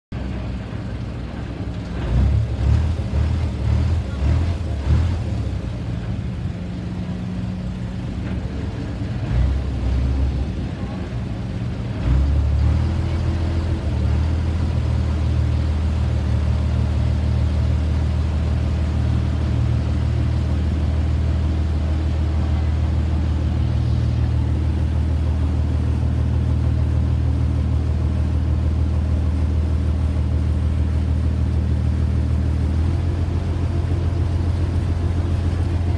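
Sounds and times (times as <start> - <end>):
boat engine droning: 0.2 - 35.9.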